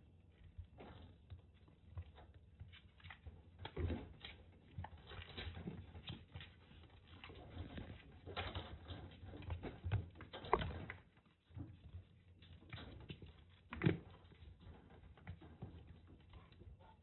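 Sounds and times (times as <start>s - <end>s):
kittens' paws pattering and scuffling: 0.0s - 17.0s.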